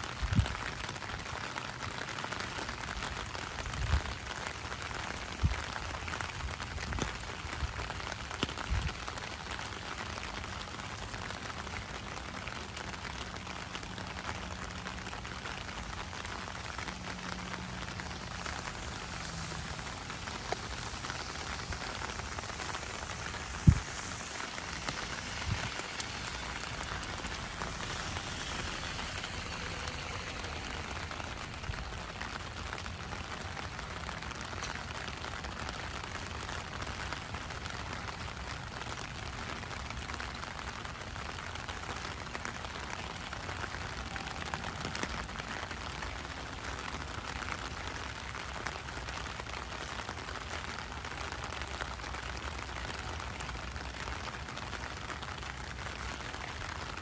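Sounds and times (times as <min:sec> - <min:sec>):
rain on wet street: 0:00.0 - 0:57.0.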